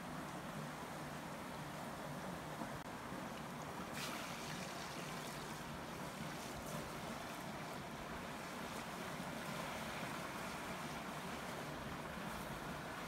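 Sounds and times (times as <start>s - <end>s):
waterfall and stream rushing: 1.8s - 13.0s.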